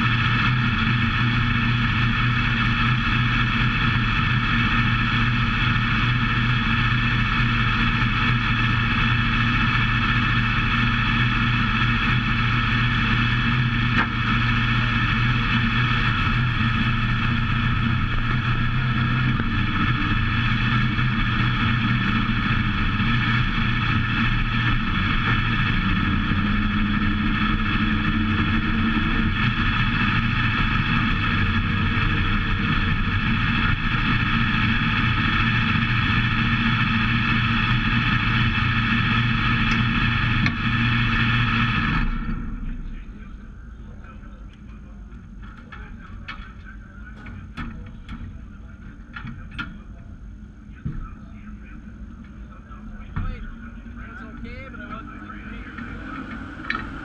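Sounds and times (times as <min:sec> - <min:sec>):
race car engine running low: 0:00.0 - 0:57.0.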